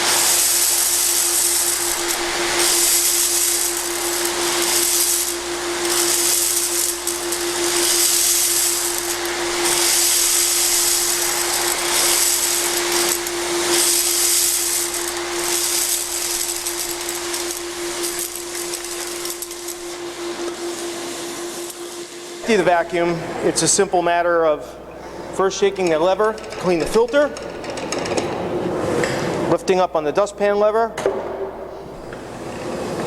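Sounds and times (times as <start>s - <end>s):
industrial vacuum motor whine: 0.0s - 26.5s, 31.8s - 33.0s.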